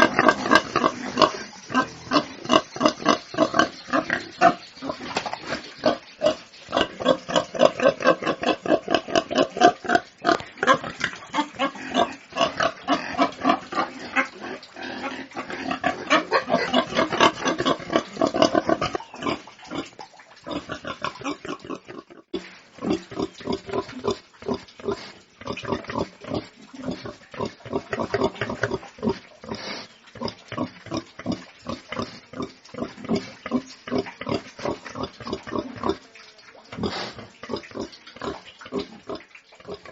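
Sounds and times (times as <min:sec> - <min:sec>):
pigs grunting: 0:00.0 - 0:39.9.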